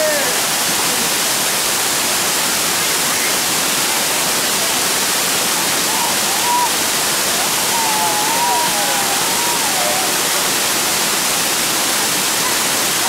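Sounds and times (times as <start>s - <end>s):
waterfall pouring onto rocks: 0.0s - 13.0s.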